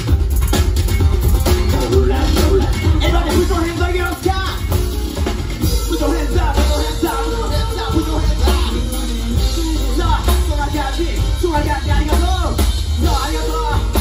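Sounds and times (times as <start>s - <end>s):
live rock music: 0.0s - 14.0s.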